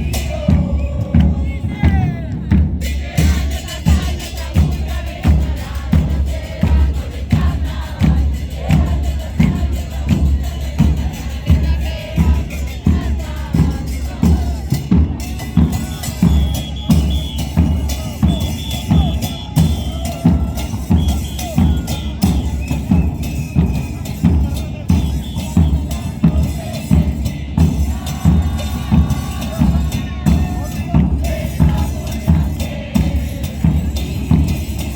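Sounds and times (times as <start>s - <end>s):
bass drums beating: 0.0s - 34.9s
crowd voices: 0.0s - 34.9s
percussion: 0.0s - 34.9s.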